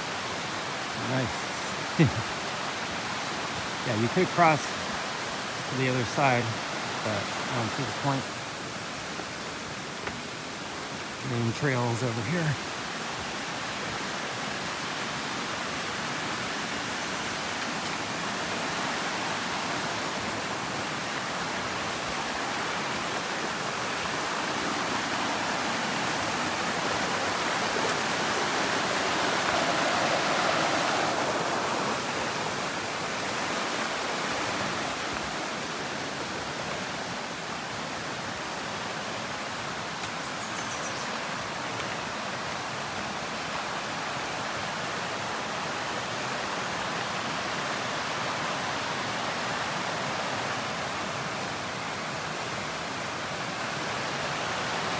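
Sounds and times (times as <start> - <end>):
creek rushing over rocks: 0.0 - 54.9.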